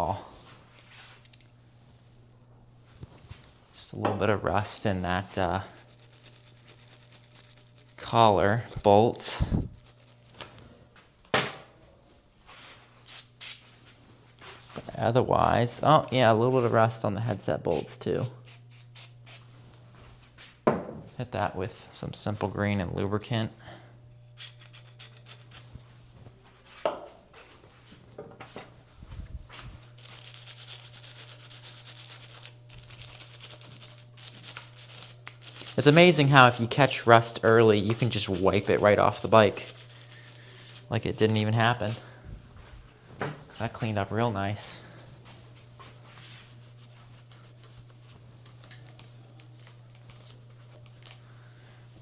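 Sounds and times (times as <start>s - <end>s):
steady low hum: 0.0s - 11.2s, 11.8s - 52.0s.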